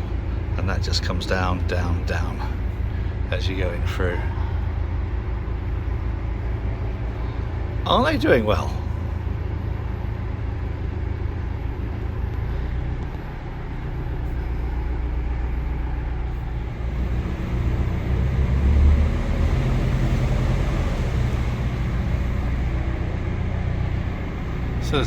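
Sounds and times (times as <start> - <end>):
diesel boat engine rumble: 0.0 - 25.0.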